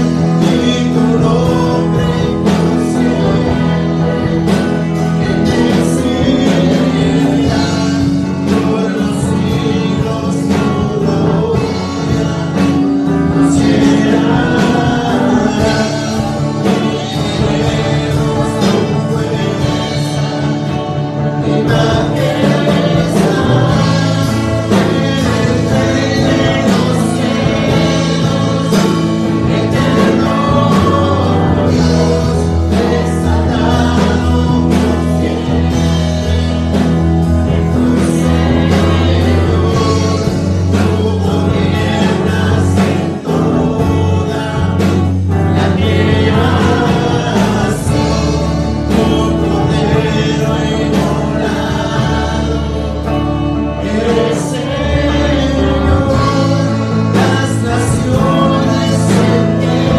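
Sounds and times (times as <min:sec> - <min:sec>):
instrumental accompaniment with bass: 0:00.0 - 0:59.9
man singing: 0:00.0 - 0:59.9.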